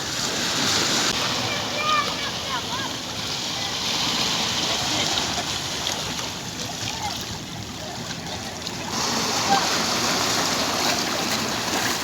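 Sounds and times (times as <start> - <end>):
sea waves washing ashore: 0.0 - 12.0.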